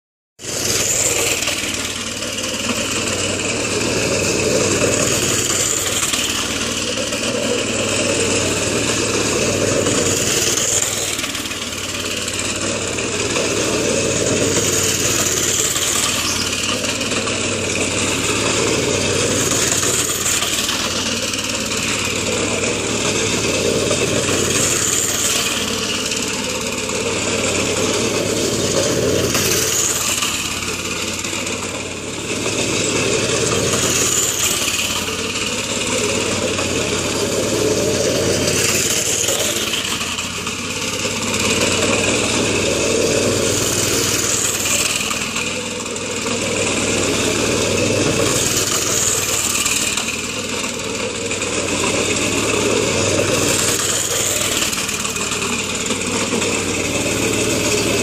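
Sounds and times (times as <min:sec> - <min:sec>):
go-kart engine running: 0:00.4 - 0:58.0.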